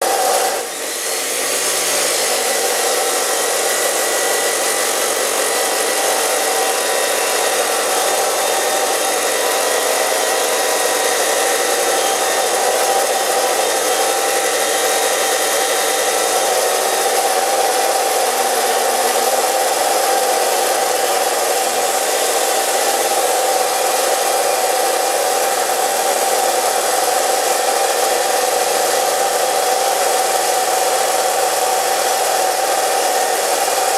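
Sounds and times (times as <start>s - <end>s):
cut-off saw cutting steel: 0.0s - 33.9s.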